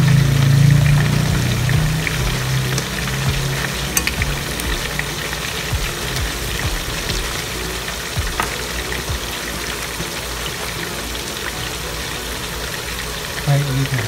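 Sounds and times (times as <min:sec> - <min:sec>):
oil sizzling and bubbling: 0:00.0 - 0:14.0.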